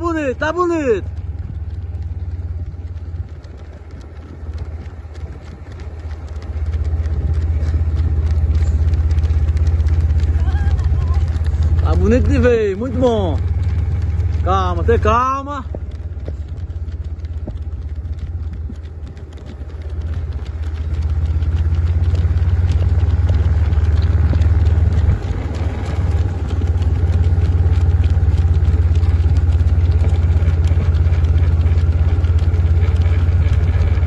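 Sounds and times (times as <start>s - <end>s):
moving vehicle rumble: 0.0s - 34.0s.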